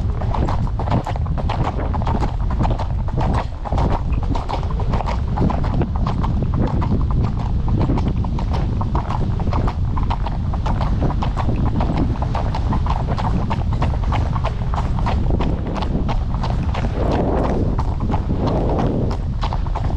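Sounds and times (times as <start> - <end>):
horse hooves clip-clopping: 0.0 - 19.9
low rumble: 0.0 - 19.9.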